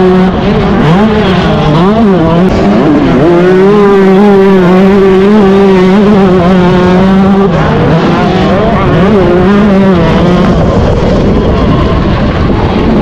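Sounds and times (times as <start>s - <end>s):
motocross engine revving: 0.0s - 13.0s.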